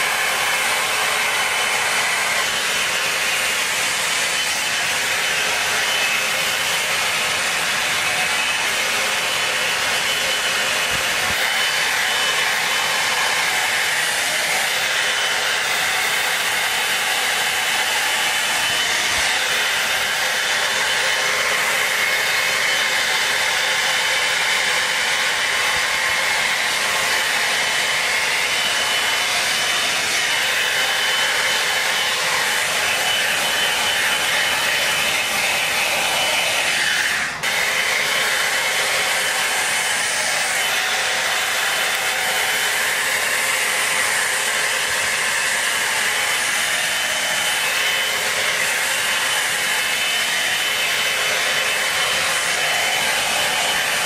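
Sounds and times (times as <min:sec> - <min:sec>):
blow dryer brush running: 0:00.0 - 0:54.0.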